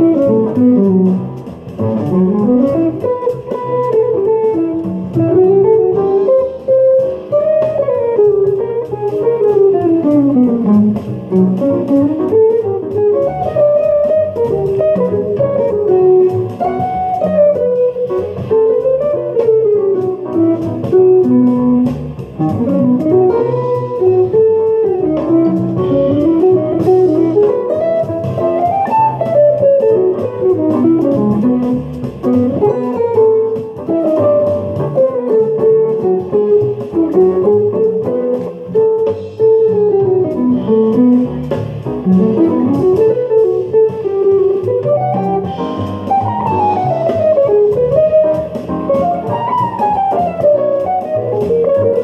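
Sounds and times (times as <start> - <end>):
electric guitar jazz solo: 0.0 - 52.0
low bass notes: 0.0 - 52.0.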